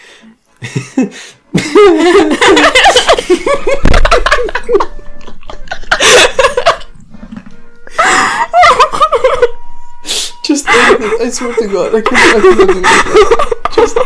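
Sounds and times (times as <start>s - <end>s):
people laughing hard: 0.6s - 9.6s, 10.6s - 14.0s.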